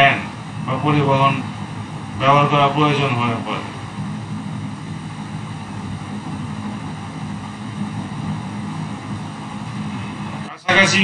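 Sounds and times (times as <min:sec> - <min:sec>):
low machine drone: 0:00.0 - 0:11.0.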